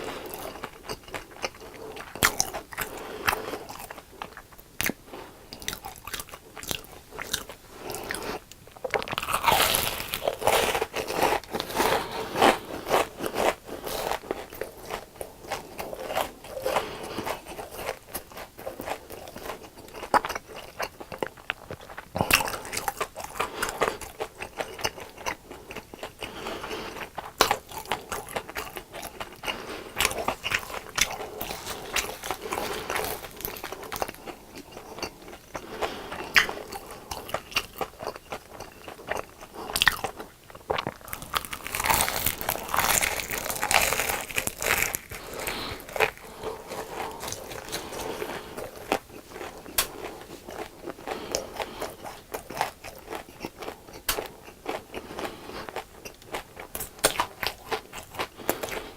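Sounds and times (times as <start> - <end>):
chewing crunchy fried food: 0.0 - 58.9.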